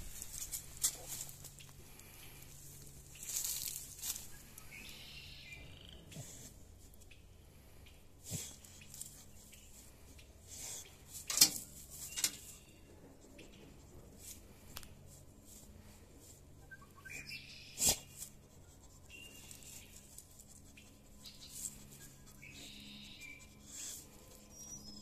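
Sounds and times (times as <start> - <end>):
dog sniffing in dry leaves: 0.0 - 5.4, 6.0 - 7.1, 8.1 - 12.2, 13.0 - 25.0.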